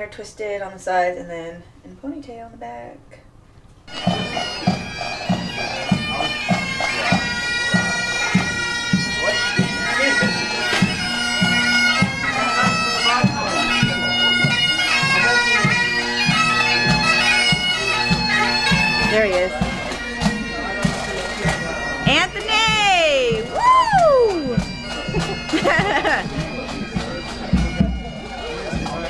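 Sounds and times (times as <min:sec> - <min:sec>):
bagpipes playing a march: 0:03.9 - 0:29.0
drum beating march beat: 0:03.9 - 0:29.0.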